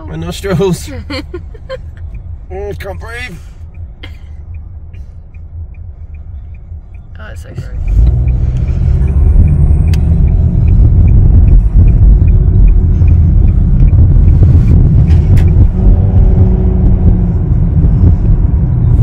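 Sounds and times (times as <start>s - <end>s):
car driving rumble: 0.0s - 19.0s
turn signal ticking: 0.0s - 19.0s.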